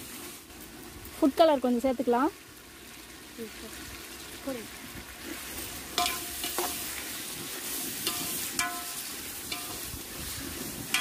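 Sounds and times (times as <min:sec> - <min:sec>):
masala sizzling in a pot: 0:00.0 - 0:11.0.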